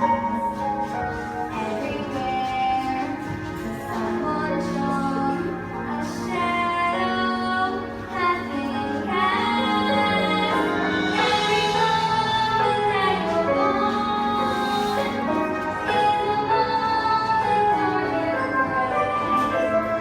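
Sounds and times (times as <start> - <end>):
backing music: 0.0 - 20.0.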